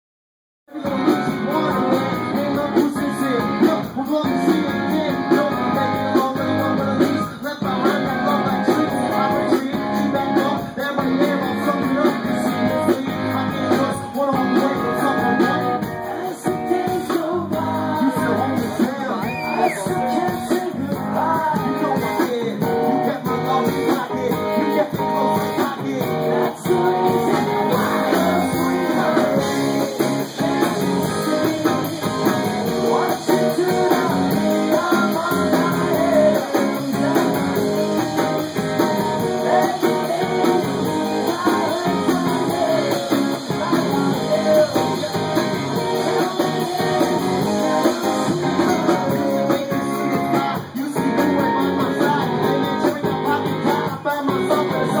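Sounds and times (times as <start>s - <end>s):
rock band playing: 0.7s - 55.0s
steady drum beat: 0.8s - 55.0s
strummed guitars: 0.8s - 55.0s.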